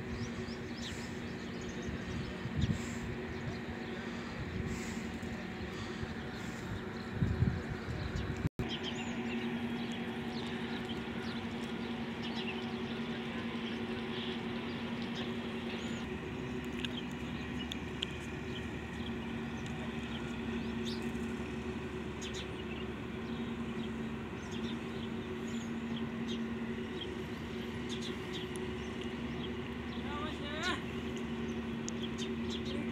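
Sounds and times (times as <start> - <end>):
birds chirping: 0.0 - 32.9
motor humming: 0.0 - 32.9.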